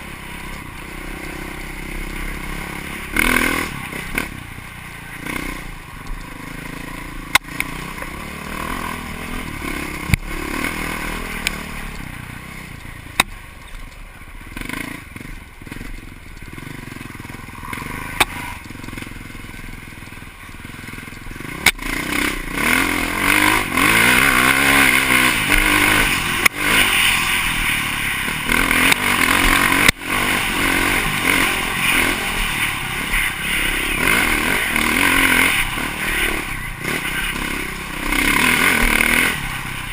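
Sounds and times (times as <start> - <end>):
off-road vehicle engine under load: 0.0 - 39.9.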